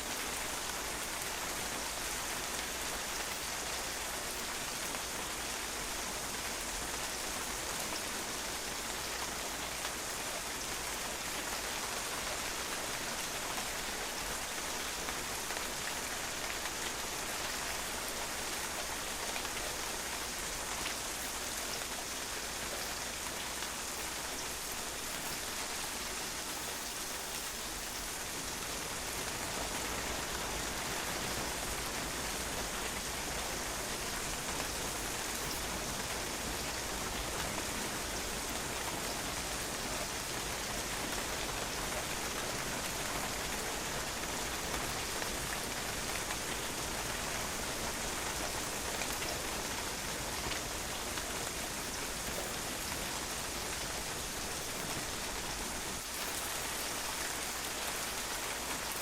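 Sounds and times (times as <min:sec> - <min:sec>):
steady rain falling: 0:00.0 - 0:59.0
raindrops pattering on patio: 0:00.1 - 0:59.0.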